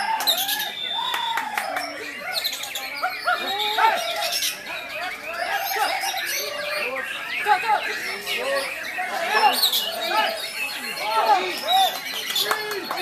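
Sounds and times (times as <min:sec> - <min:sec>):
songbirds chorus: 0:00.0 - 0:13.0.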